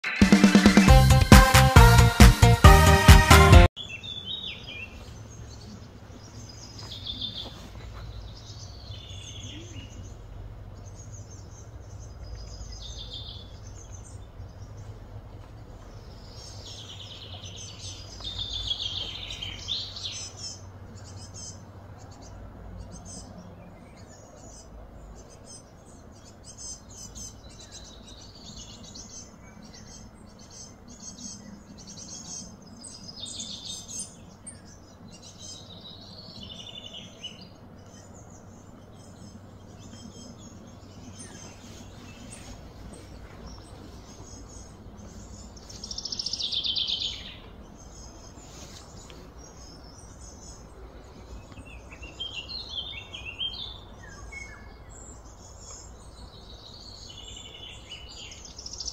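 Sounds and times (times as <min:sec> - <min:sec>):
birds chirping and calling: 0:03.8 - 0:58.9.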